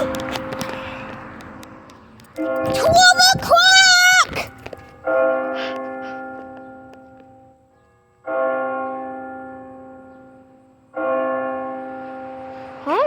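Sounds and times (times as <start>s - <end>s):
church bell striking: 0.0s - 3.5s, 4.2s - 13.0s.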